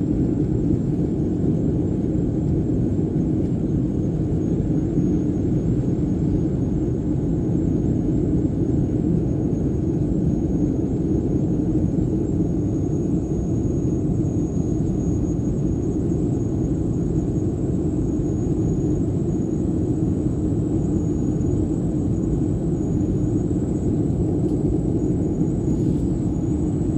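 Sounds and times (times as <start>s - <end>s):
aircraft engine rumble: 0.0s - 26.9s.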